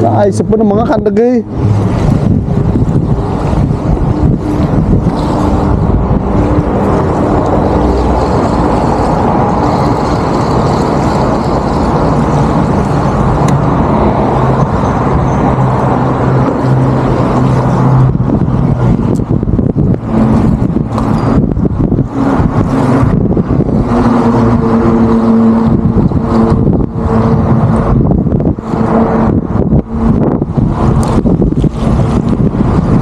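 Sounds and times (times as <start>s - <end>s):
rumble of road traffic: 0.0s - 33.0s
low hum: 1.4s - 33.0s.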